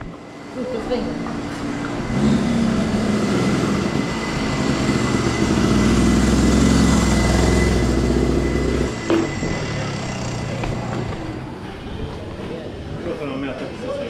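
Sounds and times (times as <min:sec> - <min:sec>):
kart engine idling: 0:00.4 - 0:12.9.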